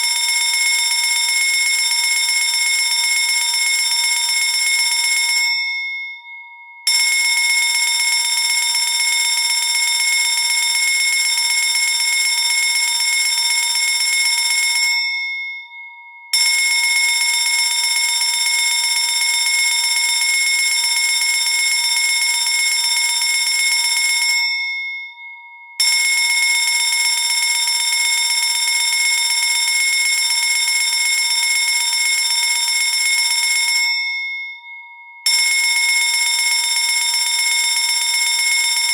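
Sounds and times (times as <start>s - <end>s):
fire alarm bell ringing: 0.0s - 38.9s.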